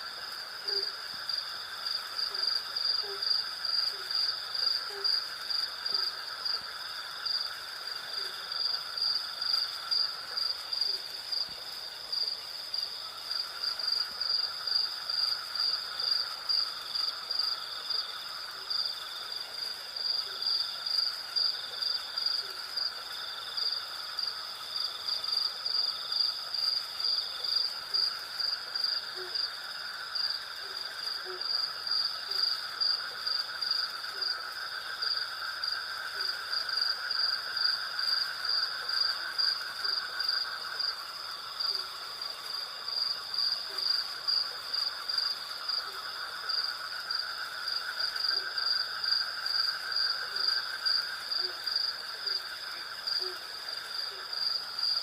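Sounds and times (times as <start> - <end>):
crickets chirping: 0.0 - 55.0
high insect trill: 0.0 - 55.0.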